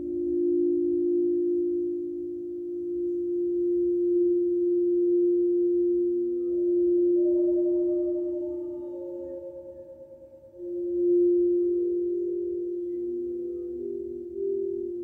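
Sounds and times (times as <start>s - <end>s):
metal bowls ringing: 2.6s - 15.0s.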